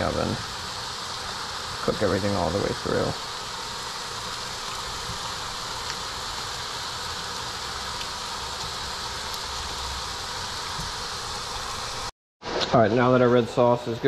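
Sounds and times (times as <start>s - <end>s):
sauce sizzling in skillet: 0.0s - 12.1s.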